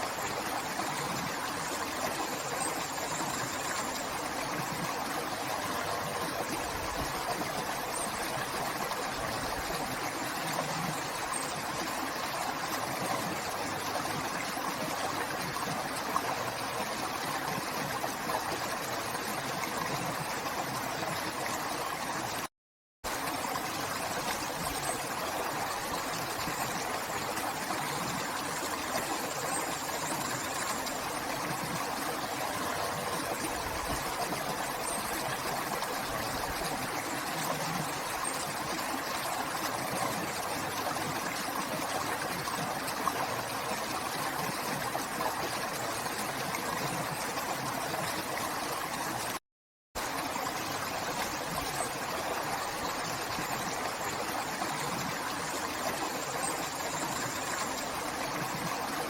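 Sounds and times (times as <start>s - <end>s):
river water flowing: 0.0s - 22.5s, 23.1s - 49.4s, 50.0s - 59.0s.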